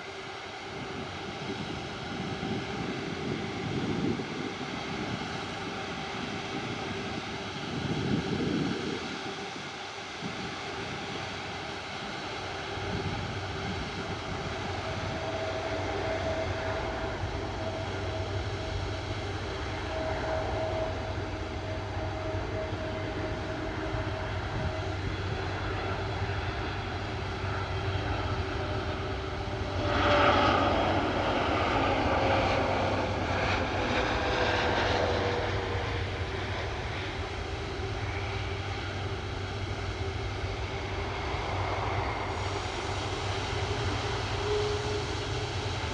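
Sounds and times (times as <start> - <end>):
jet engines humming and whining: 0.0 - 45.9.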